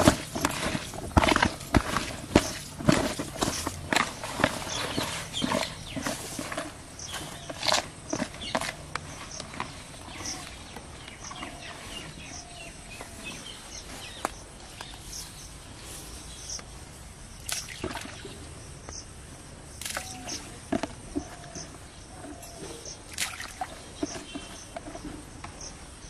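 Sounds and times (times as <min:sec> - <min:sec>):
background hiss: 0:00.0 - 0:26.0
birds chirping: 0:00.0 - 0:26.0.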